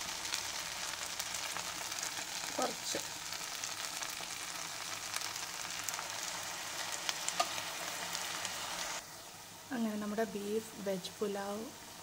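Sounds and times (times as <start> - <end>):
rice sizzling in a pot: 0.0 - 12.0.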